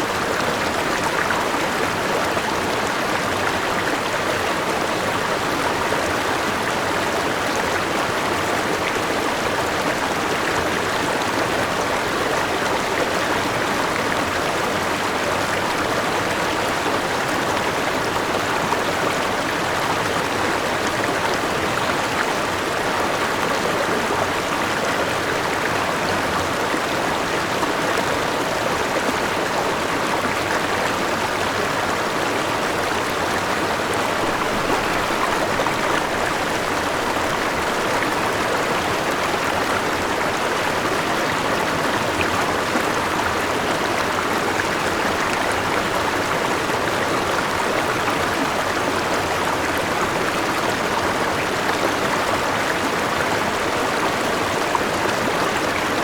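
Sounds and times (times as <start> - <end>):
river running over rocks: 0.0 - 56.0.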